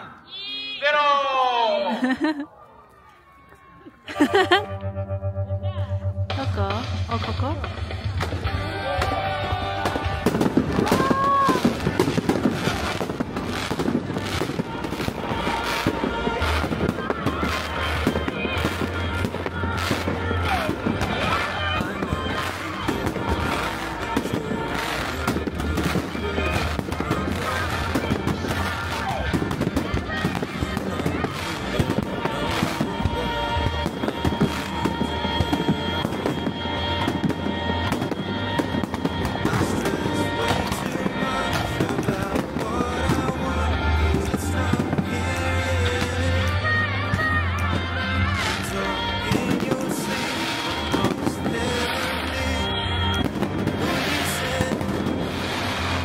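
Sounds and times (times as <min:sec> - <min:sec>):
music playing: 0:03.3 - 0:56.0
fireworks bangs and crackles: 0:06.3 - 0:56.0.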